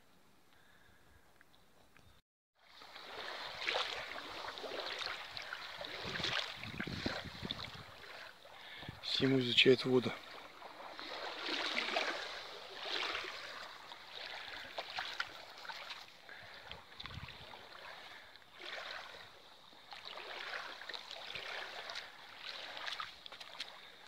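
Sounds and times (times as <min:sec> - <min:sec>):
waves lapping on pebbly shore: 0:02.6 - 0:24.0.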